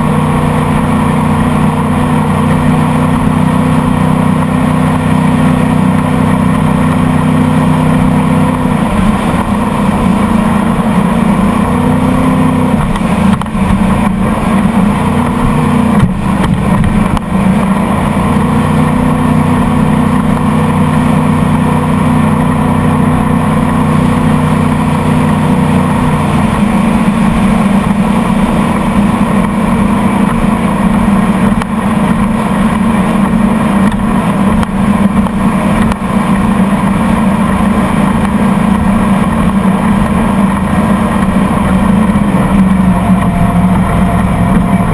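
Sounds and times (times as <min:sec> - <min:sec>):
motorboat engine running: 0:00.0 - 0:44.9.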